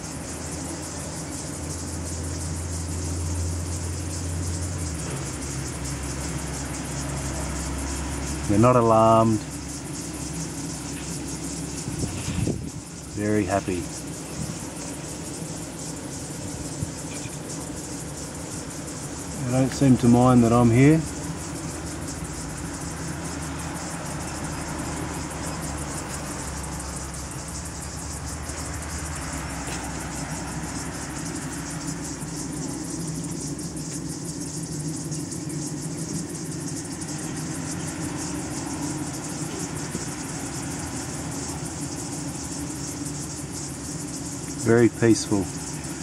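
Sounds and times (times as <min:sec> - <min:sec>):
honeybees humming: 0:00.0 - 0:46.0.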